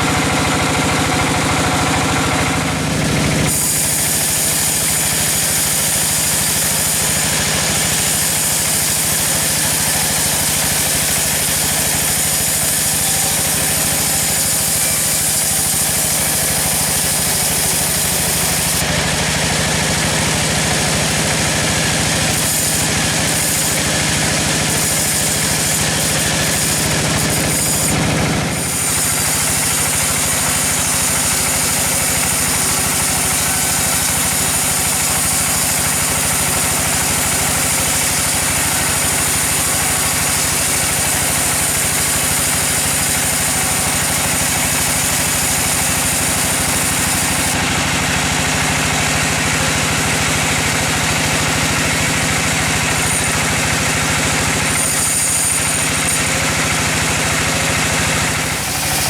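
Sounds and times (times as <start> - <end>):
sawmill engine droning: 0.0 - 59.0.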